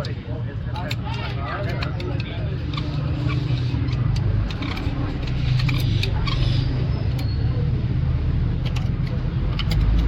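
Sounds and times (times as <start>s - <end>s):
engine rumble: 0.0s - 10.0s.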